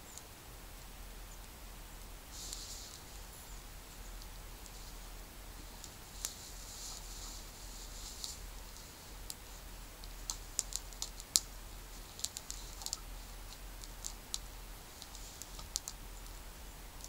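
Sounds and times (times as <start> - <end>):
wood fire crackling and popping: 2.2 - 17.0.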